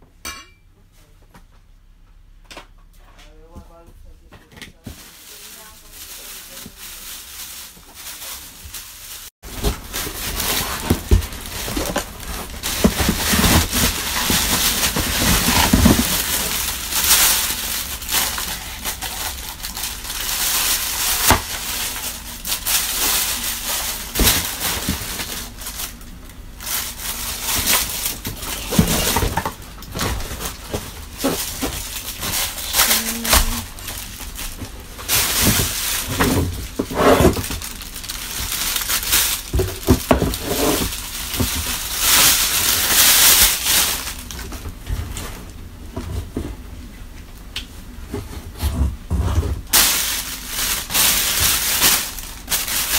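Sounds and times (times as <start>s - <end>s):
plastic packaging crinkling: 4.8s - 45.5s, 49.7s - 52.9s.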